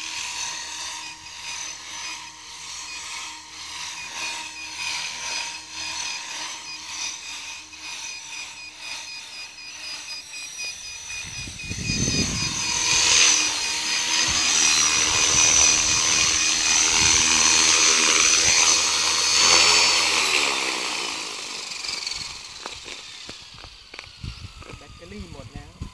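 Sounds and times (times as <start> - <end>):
rc helicopter rotor whining: 0.0 - 25.9.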